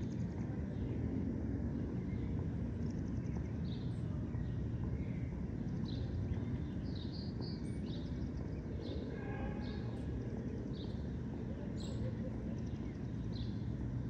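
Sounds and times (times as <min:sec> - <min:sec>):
low park background rumble: 0:00.0 - 0:14.0.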